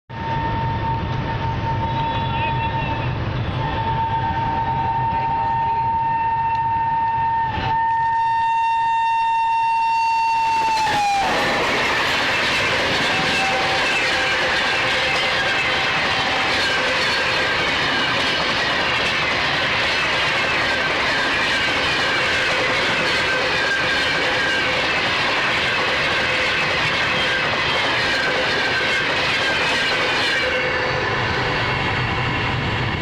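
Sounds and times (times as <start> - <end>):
train wheels on rails: 0.1 - 33.0.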